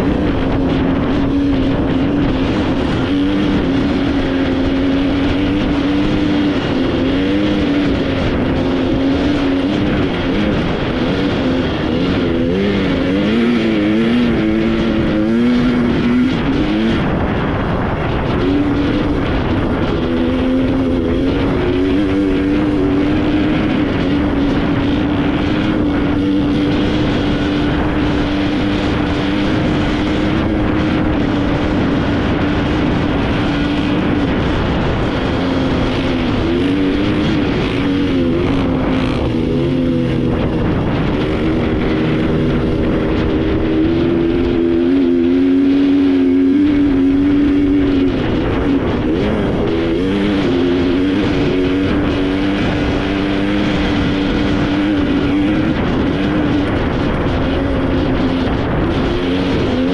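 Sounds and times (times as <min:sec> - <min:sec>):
rough road noise: 0:00.0 - 0:59.9
vehicle engine running: 0:00.0 - 0:59.9
wind noise: 0:00.0 - 0:59.9.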